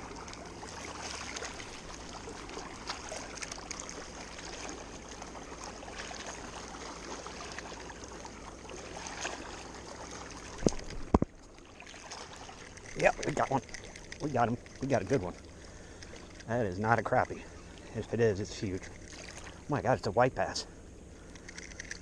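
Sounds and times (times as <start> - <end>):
small clicks and splashes: 0.0 - 19.7, 21.2 - 22.0
flowing water rushing: 0.0 - 19.9.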